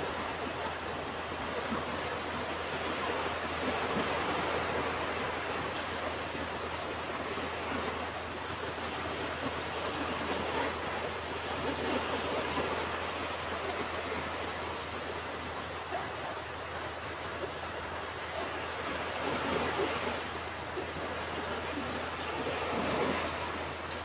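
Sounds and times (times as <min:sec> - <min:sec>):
ocean waves on a beach: 0:00.0 - 0:24.0.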